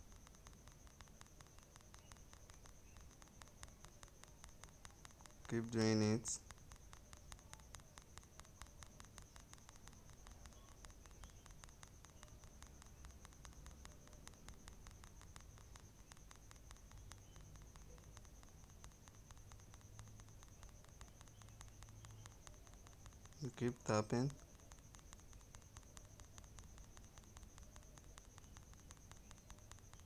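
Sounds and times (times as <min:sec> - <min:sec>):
faint ticks: 0:00.0 - 0:30.0.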